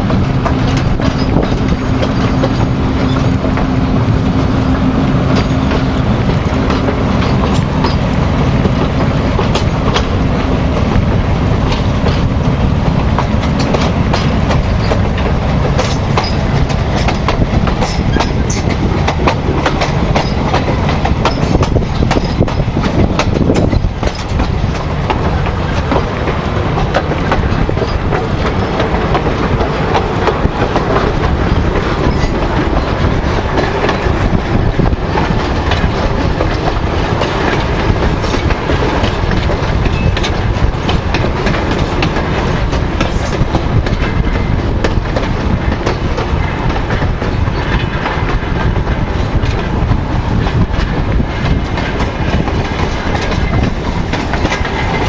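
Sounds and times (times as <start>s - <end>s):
diesel locomotive engine: 0.0s - 55.0s
heavy train rumble: 0.0s - 55.0s
wheels clicking over rails: 0.0s - 55.0s.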